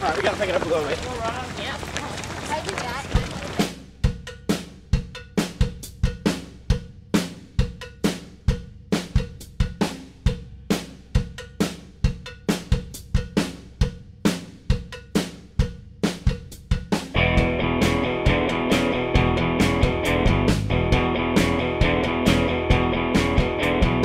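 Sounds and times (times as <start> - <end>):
drum kit playing a beat: 2.8 - 24.0.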